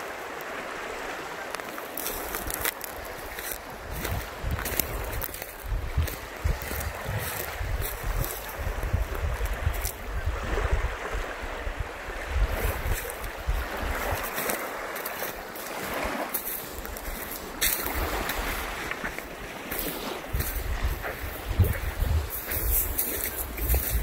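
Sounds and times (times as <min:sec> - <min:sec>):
small waves on sandy shore: 0:00.0 - 0:24.0
wind buffeting microphone: 0:02.2 - 0:15.0, 0:15.8 - 0:24.0.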